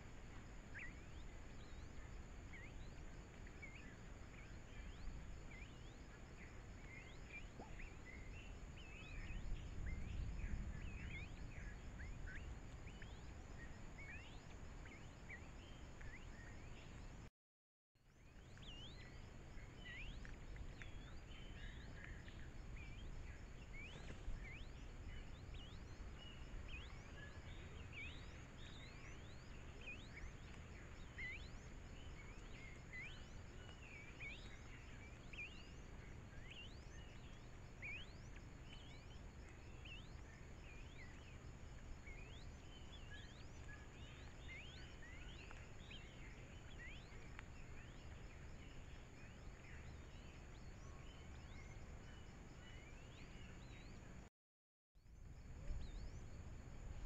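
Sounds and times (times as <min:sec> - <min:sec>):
faint bird chirps: 0:00.0 - 0:17.3, 0:18.1 - 0:54.3, 0:55.0 - 0:57.0.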